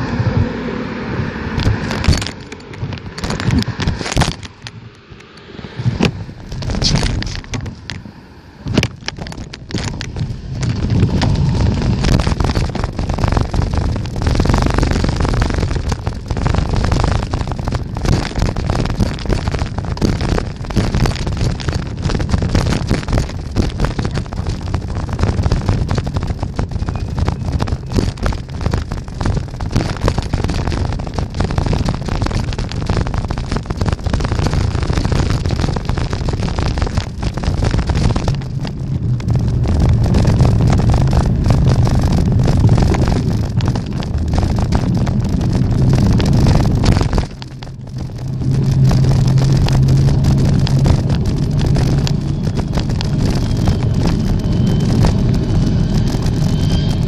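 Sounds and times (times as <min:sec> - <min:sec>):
wind buffeting microphone: 0:00.0 - 0:57.0
bicycle clicks and rattles: 0:01.6 - 0:04.8, 0:06.0 - 0:08.0, 0:08.7 - 0:54.0.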